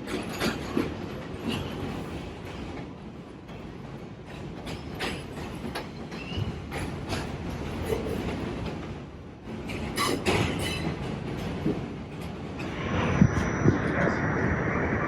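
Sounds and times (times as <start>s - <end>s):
wheel clacks over rail joints: 0.0s - 12.4s
subway train rumble: 0.0s - 15.0s.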